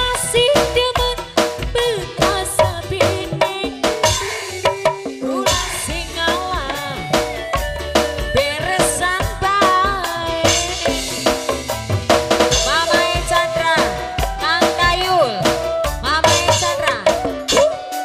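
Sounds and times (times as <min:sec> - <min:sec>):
busy drum beat: 0:00.0 - 0:18.0.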